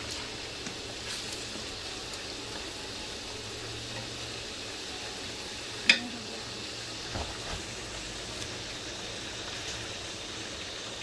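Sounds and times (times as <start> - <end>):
food frying in hot oil: 0.0 - 11.0.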